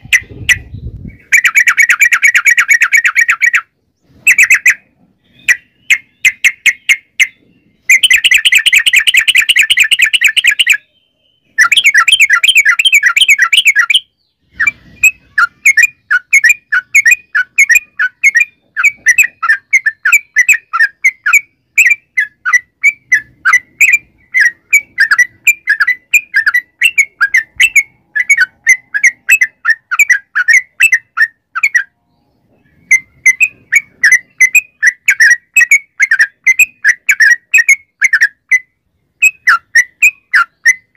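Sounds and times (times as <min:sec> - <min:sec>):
bulbul calling: 0:00.0 - 0:40.9.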